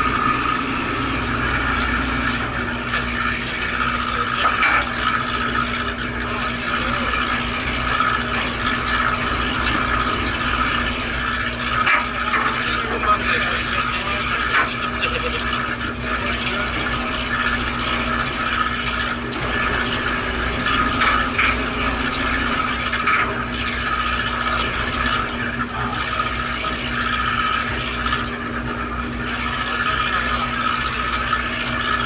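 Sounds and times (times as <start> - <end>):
boat engine humming: 0.0 - 32.0
water wash: 0.0 - 32.0.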